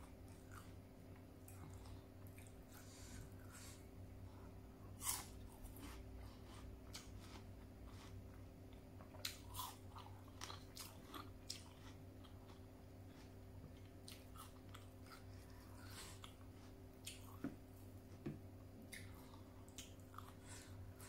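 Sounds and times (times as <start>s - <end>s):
chewing with crunches: 0.0s - 3.8s, 4.4s - 18.2s, 18.8s - 21.0s
faint steady hum: 0.0s - 21.0s.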